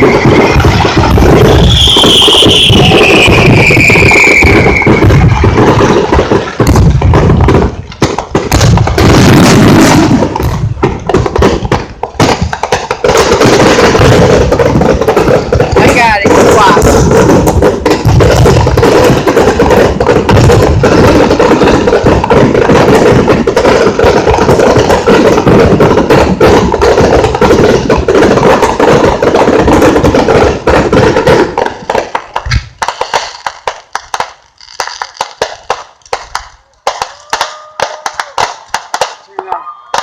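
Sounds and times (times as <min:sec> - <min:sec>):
fireworks crackling: 0:00.0 - 0:40.0.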